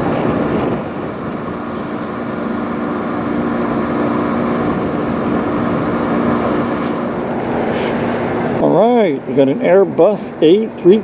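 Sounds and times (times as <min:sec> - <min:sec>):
jet airliner flying over: 0:00.0 - 0:11.0.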